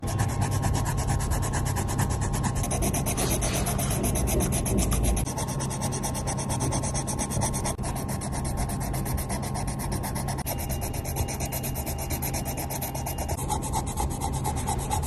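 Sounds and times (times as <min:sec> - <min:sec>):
drawing tool scratching paper: 0:00.0 - 0:15.0.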